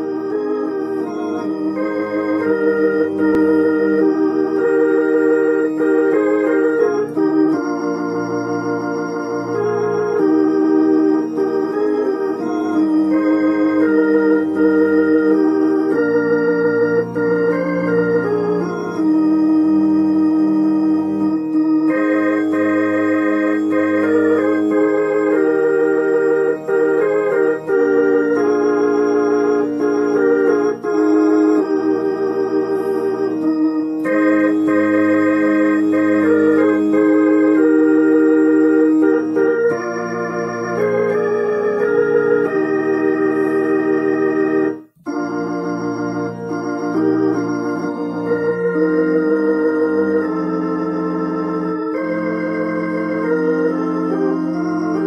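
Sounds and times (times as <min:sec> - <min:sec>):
organ chords playing hymn: 0:00.0 - 0:55.0.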